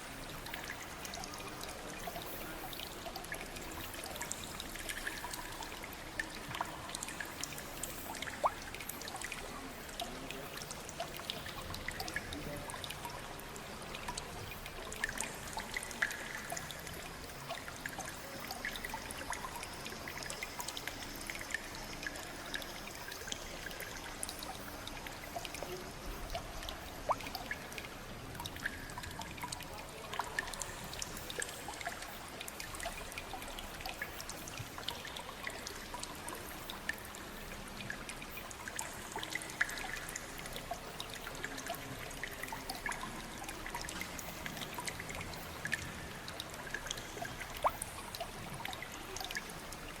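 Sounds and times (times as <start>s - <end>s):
water drips and splashes: 0.0s - 50.0s
water trickling and pouring: 0.0s - 50.0s.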